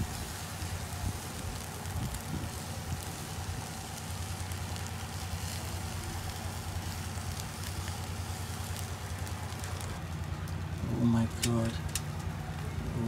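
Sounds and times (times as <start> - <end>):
charcoal crackles: 0.0 - 13.0
meat sizzling on grill: 0.0 - 13.0.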